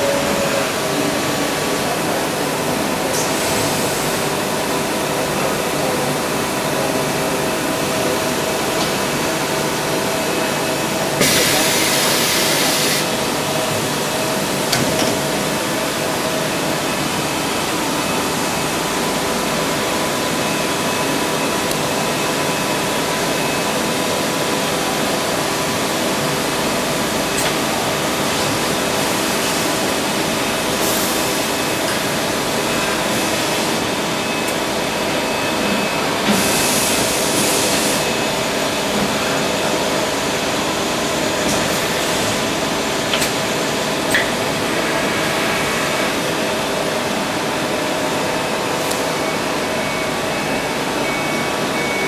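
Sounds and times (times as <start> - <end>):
machine mechanical hum: 0.0 - 52.0.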